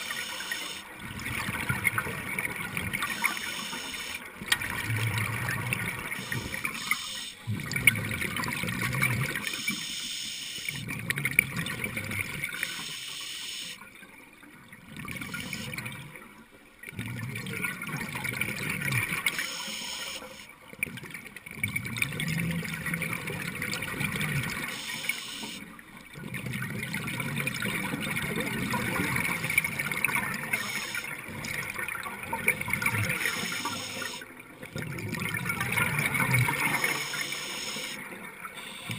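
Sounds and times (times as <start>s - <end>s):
scuba bubbles underwater: 0.0s - 38.9s.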